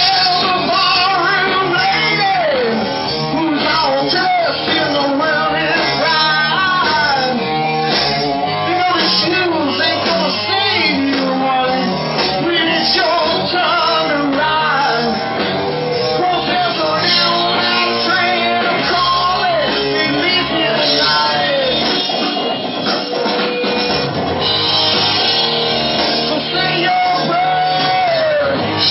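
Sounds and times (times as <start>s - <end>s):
man singing: 0.0s - 22.5s, 26.1s - 28.9s
bass guitar: 0.0s - 28.9s
drum kit: 0.0s - 28.9s
electric guitars: 0.0s - 28.9s.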